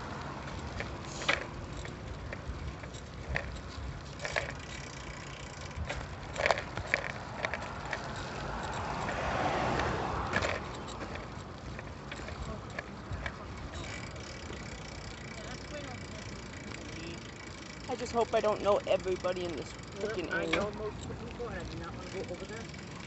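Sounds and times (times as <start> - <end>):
bicycle clicks and rattles: 0.0 - 23.0
bicycle tyre and wind noise: 0.0 - 23.0.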